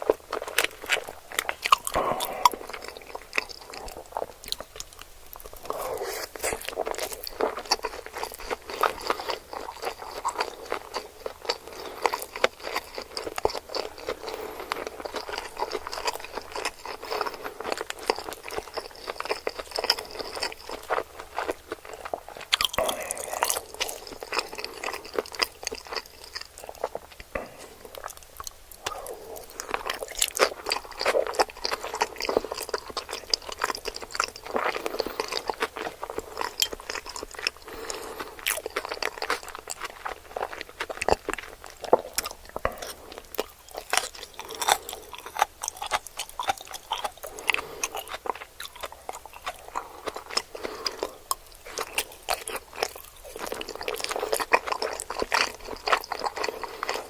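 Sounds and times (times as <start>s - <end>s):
crisp crunching chewing: 0.0s - 57.0s.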